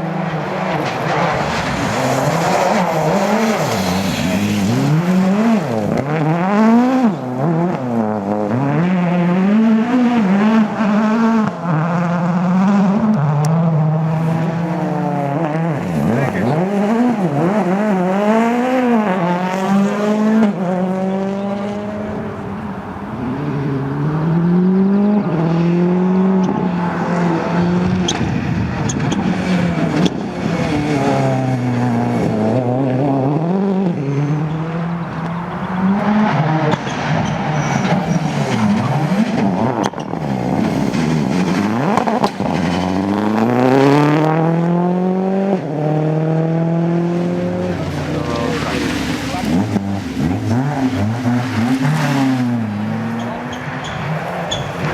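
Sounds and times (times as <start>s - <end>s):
rally car engine revving: 0.0s - 54.9s.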